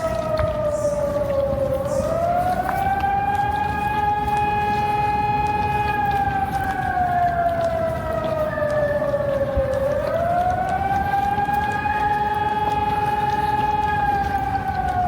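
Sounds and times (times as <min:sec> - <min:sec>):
civil defence siren wailing: 0:00.0 - 0:15.0.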